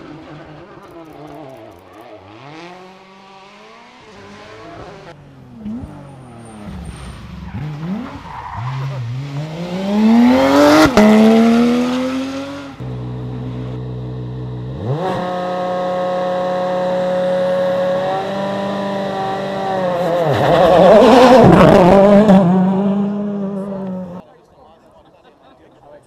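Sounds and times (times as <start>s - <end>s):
rally car engine revving: 0.0s - 24.2s.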